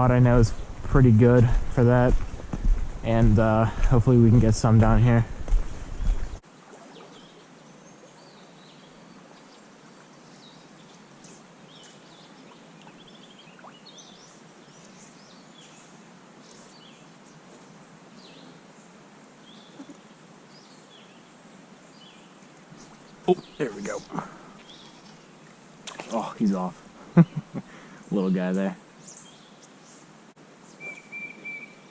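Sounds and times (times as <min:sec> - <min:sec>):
songbirds chirping: 0:00.0 - 0:31.9.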